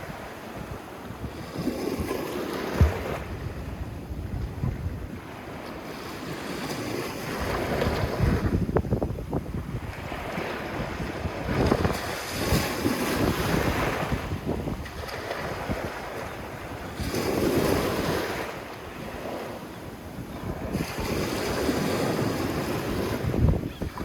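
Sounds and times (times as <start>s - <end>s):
sea waves washing onto sand: 0.0s - 24.0s
wind noise on microphone: 0.0s - 24.0s.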